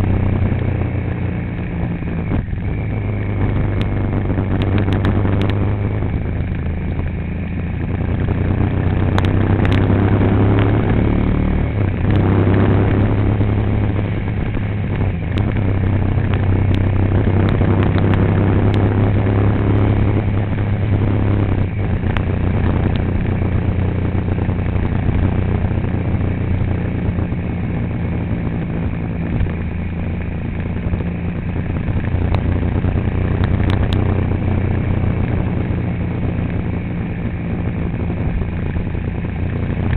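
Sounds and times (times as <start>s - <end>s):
road and rattle noise: 0.0s - 39.9s
vehicle engine running: 0.0s - 39.9s.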